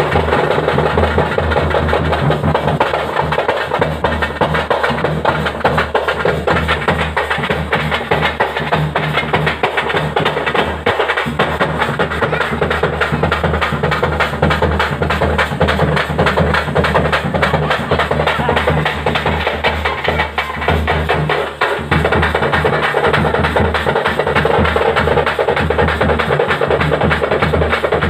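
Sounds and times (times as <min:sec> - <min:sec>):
fast steady drumming: 0:00.0 - 0:28.0
loud festival music: 0:00.0 - 0:28.0.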